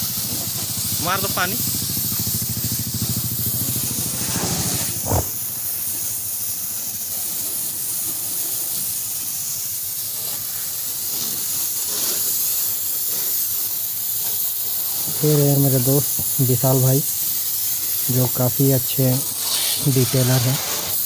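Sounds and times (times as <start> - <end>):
hose spray on car: 0.0 - 21.0.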